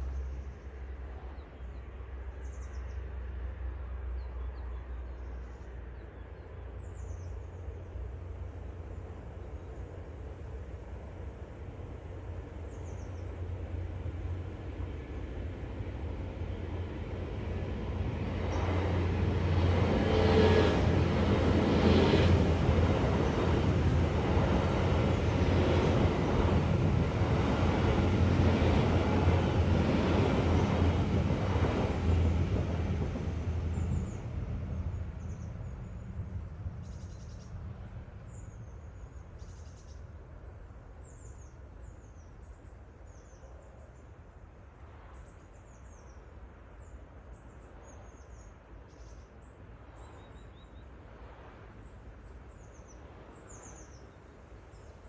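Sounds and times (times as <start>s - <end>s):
passenger train rumbling past: 0.0s - 55.0s.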